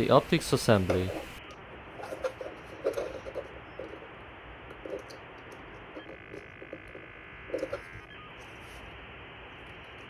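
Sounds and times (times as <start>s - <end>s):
faint high whine: 0.0s - 10.0s
steady hiss: 0.0s - 10.0s.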